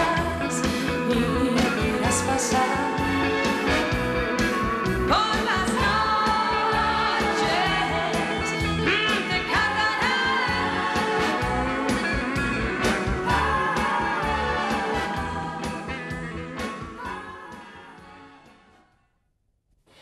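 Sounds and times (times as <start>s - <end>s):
person singing: 0.0s - 3.4s, 5.0s - 18.3s.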